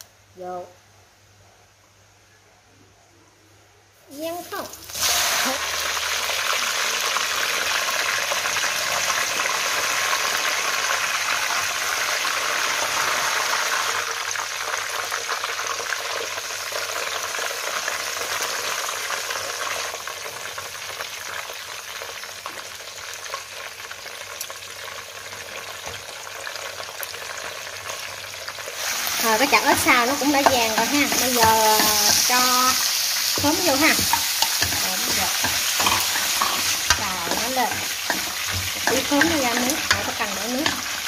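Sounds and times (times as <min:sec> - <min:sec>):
food sizzling in hot oil: 0:04.1 - 0:41.0.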